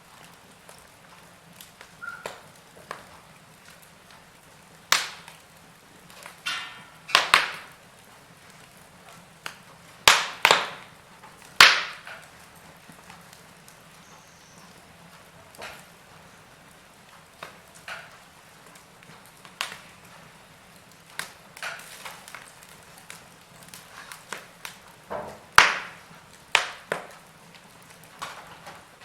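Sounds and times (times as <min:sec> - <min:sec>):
burning logs crackling: 0:00.0 - 0:29.0.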